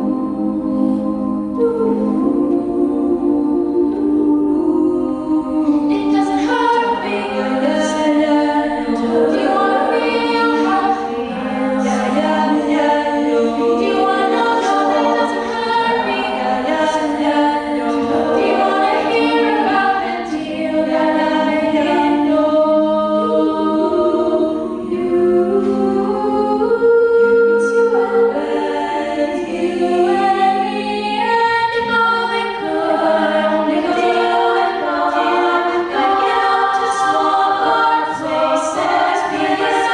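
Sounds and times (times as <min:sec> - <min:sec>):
vocal group singing in harmony: 0:00.0 - 0:39.9.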